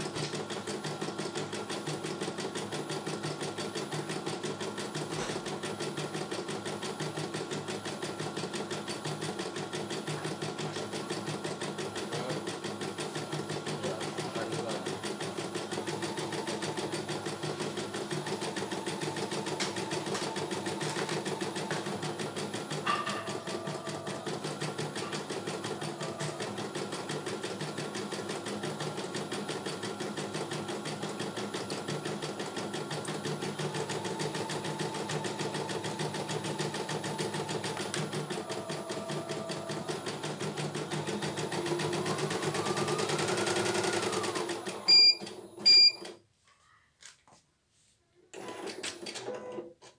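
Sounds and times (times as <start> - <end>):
embroidery machine stitching: 0.0 - 46.2, 48.3 - 49.9.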